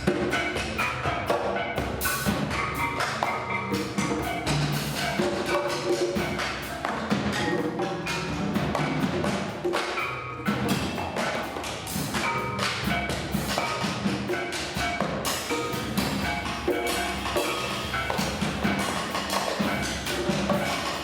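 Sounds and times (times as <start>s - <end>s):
pitched mallet notes: 0.0s - 21.0s.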